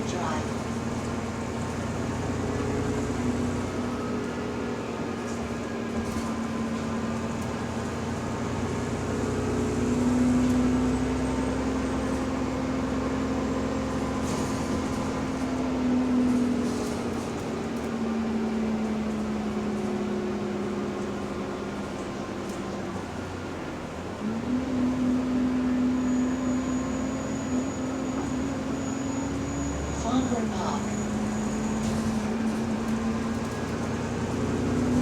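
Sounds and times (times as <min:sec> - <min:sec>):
bus drivetrain whine: 0:00.0 - 0:35.0.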